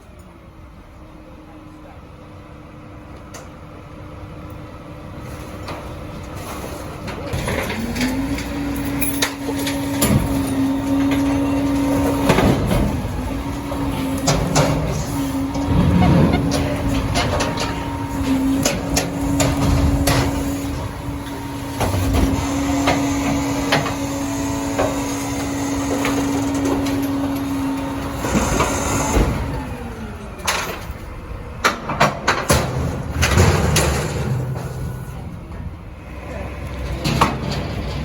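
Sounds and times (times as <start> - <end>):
garbage truck machine whine: 0.0 - 38.0
recyclables clanking in hopper: 5.2 - 38.0.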